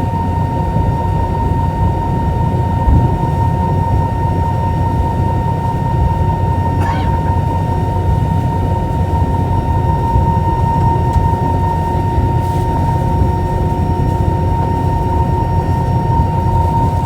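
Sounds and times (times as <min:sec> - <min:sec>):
jet engine cabin rumble: 0:00.7 - 0:17.0.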